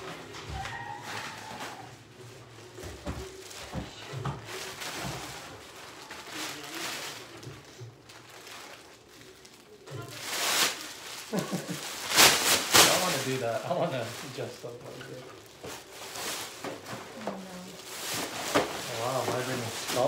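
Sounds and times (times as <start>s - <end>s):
faint background music: 0.0s - 20.0s
plastic bag rustling: 0.0s - 20.0s.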